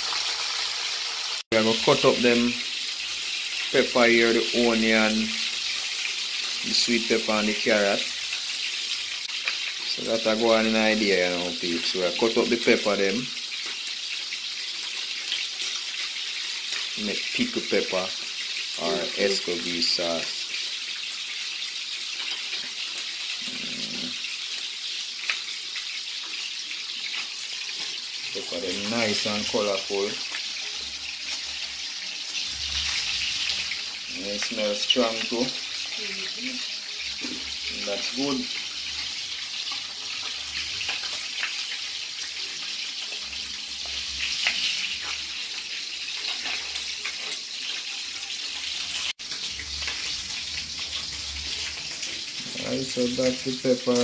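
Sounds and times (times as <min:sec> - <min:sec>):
fish frying in hot oil: 0:00.0 - 0:54.0.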